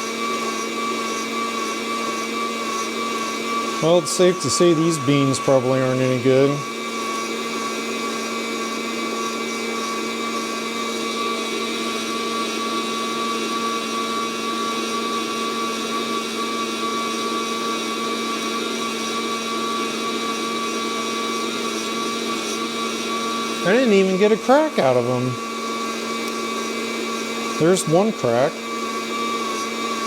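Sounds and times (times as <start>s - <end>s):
coffee roaster fan whirring: 0.0s - 30.0s.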